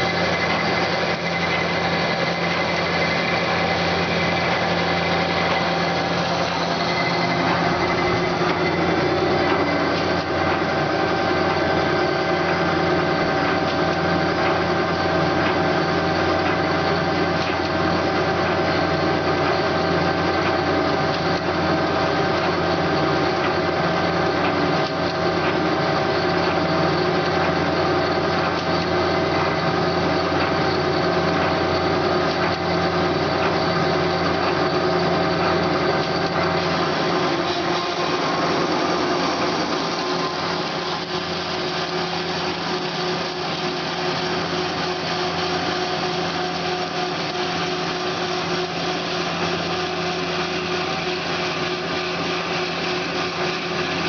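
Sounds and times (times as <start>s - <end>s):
bandsaw running: 0.0s - 54.0s.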